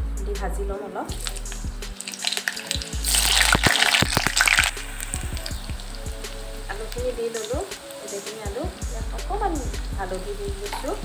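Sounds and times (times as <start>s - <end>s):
oil sizzling: 1.1s - 11.0s.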